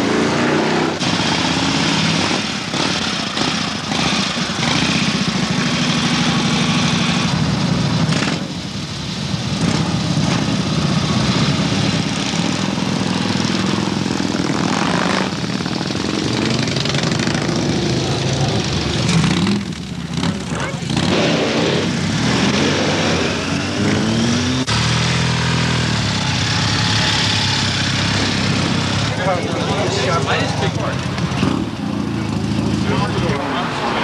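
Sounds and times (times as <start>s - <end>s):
motorcycle engines pulling away: 0.0s - 34.0s.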